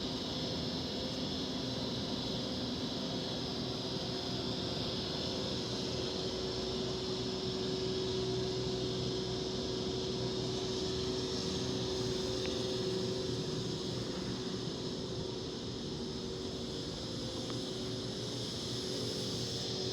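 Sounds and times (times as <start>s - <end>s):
even hiss: 0.1s - 19.9s.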